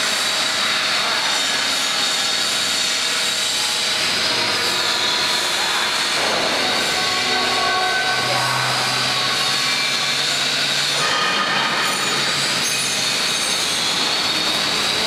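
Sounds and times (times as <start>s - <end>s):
kneader machine running with whine: 0.0s - 15.0s.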